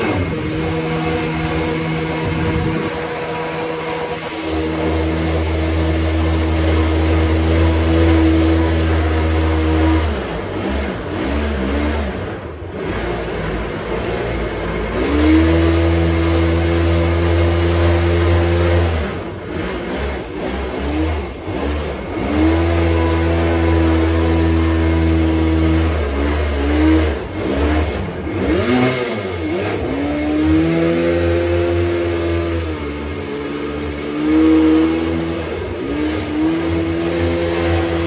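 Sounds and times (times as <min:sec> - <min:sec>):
boat engine at high revs: 0:00.0 - 0:38.0.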